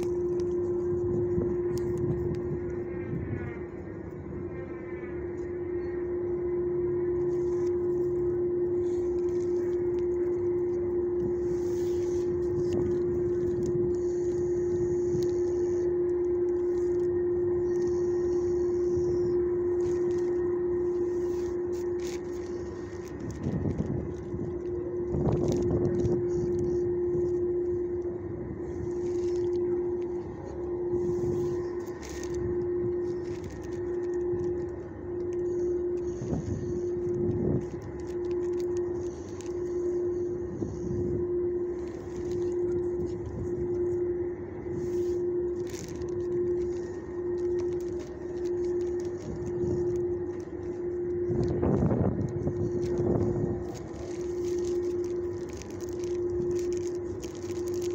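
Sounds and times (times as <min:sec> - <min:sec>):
low rumbling: 0:00.0 - 0:57.9
mechanical hum pulsing: 0:00.0 - 0:57.9.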